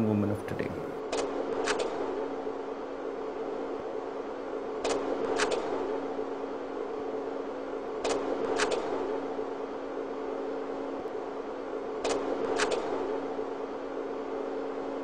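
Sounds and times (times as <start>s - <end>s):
projector fan humming: 0.0s - 15.0s.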